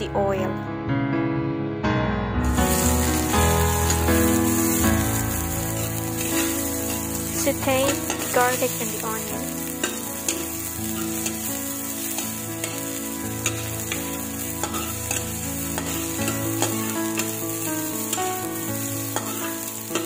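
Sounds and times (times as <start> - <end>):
garlic and onion sizzling in oil: 2.4 - 20.0
metal spatula scraping a wok: 2.6 - 9.0, 9.8 - 20.0.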